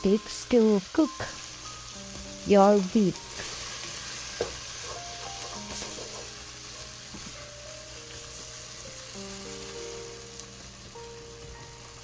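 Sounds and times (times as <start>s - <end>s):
masala sizzling in a pot: 0.0s - 12.0s
soft background music: 0.0s - 12.0s.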